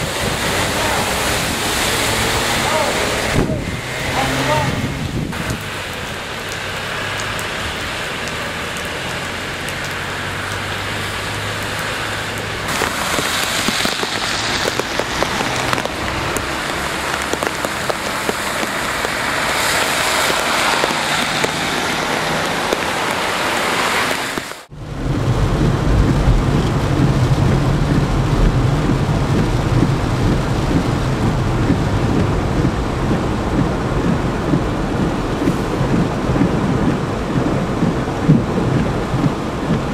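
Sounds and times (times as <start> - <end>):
thunder rumbling: 0.0 - 10.4, 11.6 - 23.8, 24.6 - 39.9
rain falling: 0.0 - 39.9.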